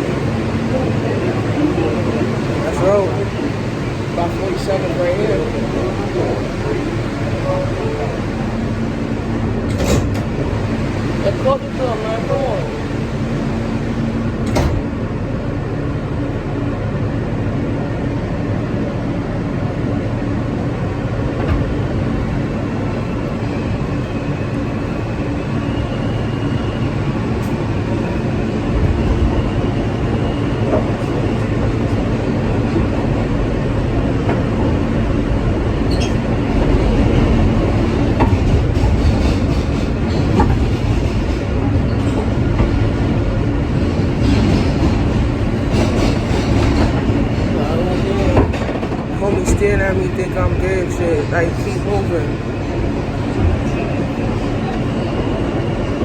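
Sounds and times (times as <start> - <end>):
subway train rumble: 0.0 - 56.0.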